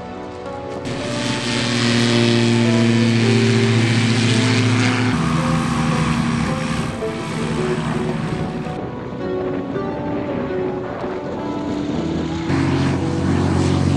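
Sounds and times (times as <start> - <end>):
light aircraft engine and propeller: 0.1 - 13.9.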